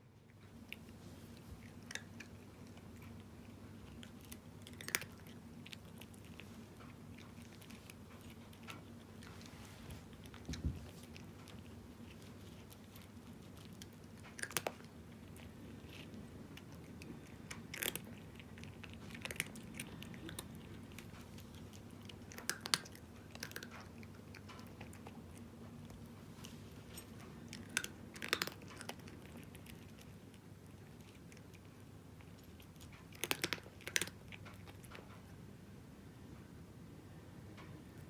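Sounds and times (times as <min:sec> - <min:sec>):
faint low hum: 0:00.0 - 0:38.0
cat crunching dry kibble: 0:00.3 - 0:35.3.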